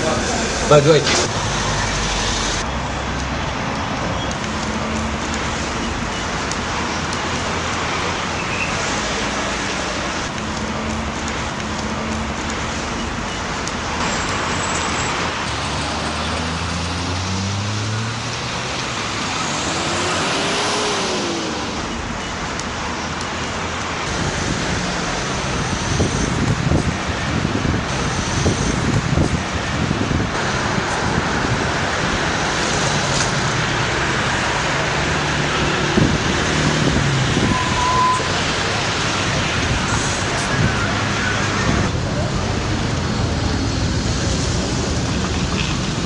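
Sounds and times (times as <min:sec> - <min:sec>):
passing car engines: 0:00.0 - 0:46.0
road noise roar: 0:00.0 - 0:46.0.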